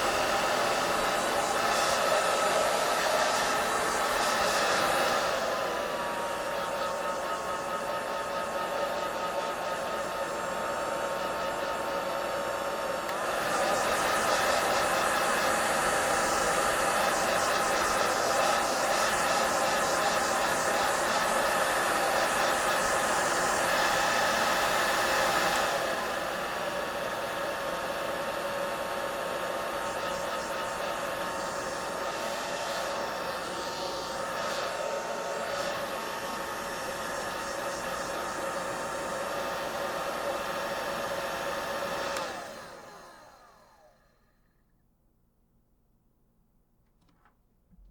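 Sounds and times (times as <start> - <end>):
blow dryer whooshing: 0.0 - 44.4.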